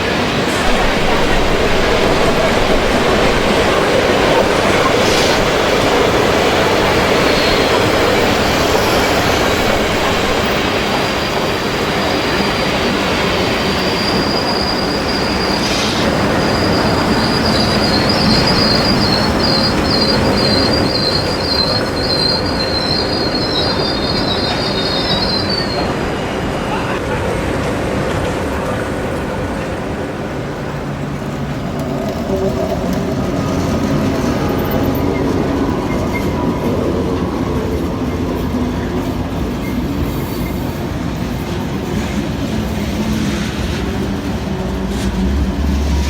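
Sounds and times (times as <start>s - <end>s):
train wheel squeal: 0.0s - 27.1s, 28.1s - 46.0s
train rumbling: 0.0s - 46.0s.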